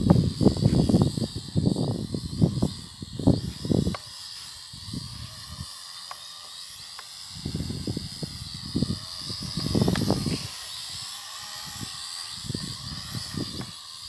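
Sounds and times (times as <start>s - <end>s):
wind buffeting microphone: 0.0s - 5.7s, 7.2s - 13.8s
drone propellers whining: 0.0s - 14.0s.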